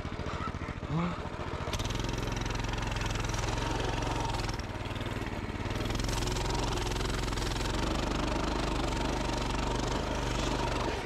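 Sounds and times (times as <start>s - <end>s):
motorbike engine at low revs: 0.0s - 11.0s.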